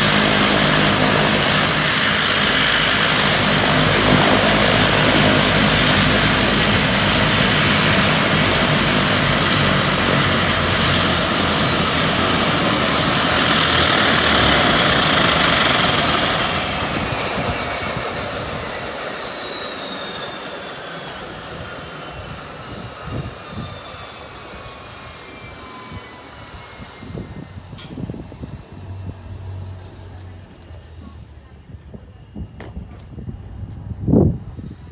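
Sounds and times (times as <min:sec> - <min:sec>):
turbine whine falling in pitch: 0:00.0 - 0:34.9
turboprop engines idling: 0:00.0 - 0:34.9.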